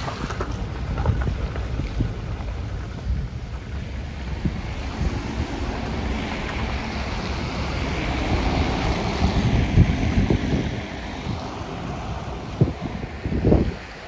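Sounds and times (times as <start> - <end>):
car tyres hissing on wet road: 0.0 - 14.0
wind buffeting microphone: 0.0 - 14.0.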